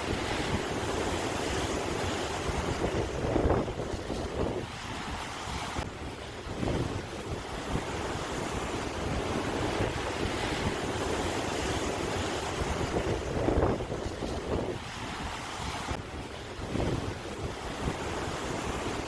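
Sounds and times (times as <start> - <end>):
ocean waves washing on shore: 0.0 - 19.0
wind on microphone: 0.0 - 19.0.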